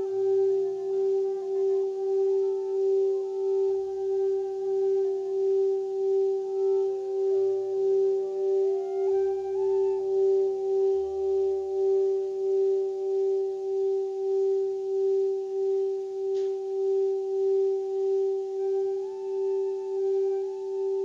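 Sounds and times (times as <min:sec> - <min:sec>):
singing bowl sustained tone: 0:00.0 - 0:21.0.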